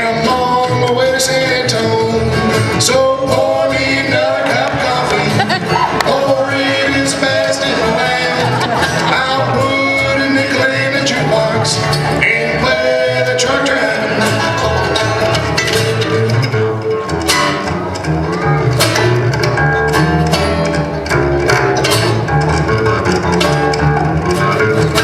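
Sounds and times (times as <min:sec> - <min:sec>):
acoustic guitar: 0:00.0 - 0:25.0
banjo notes: 0:00.0 - 0:25.0
mandolin notes: 0:00.0 - 0:25.0
upright bass: 0:00.0 - 0:25.0.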